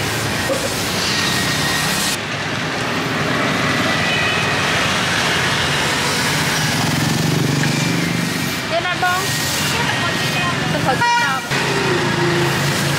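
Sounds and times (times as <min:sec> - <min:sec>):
street traffic engines: 0:00.0 - 0:12.9
traffic hiss: 0:00.0 - 0:12.9.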